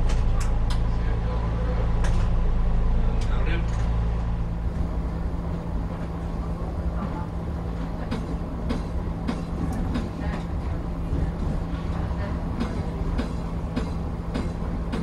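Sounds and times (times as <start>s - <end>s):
light rail car hum: 0.0s - 15.0s.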